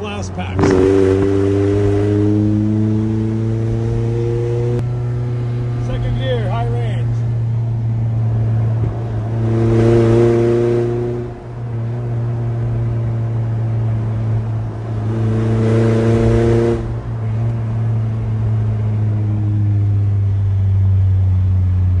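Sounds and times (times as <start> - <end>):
truck engine exhaust drone: 0.0 - 22.0.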